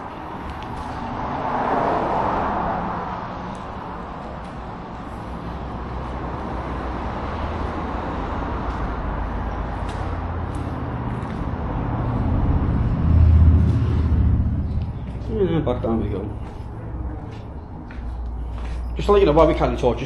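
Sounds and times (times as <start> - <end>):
heavy vehicle approaching: 0.0 - 20.0
road traffic rumble: 0.0 - 20.0.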